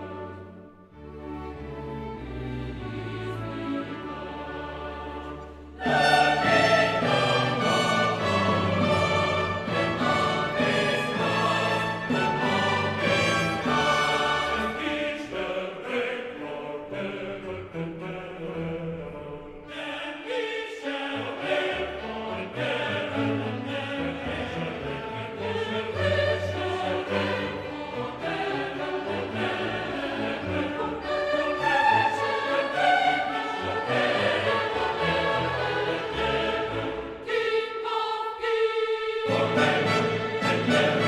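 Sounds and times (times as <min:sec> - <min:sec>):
orchestral music with choir: 0:00.0 - 0:41.0.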